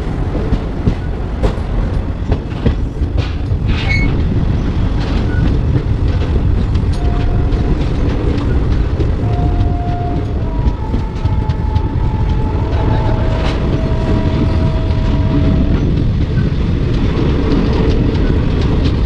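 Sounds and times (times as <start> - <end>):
train rumble: 0.0 - 19.0
train wheels clicking on rails: 0.0 - 19.0.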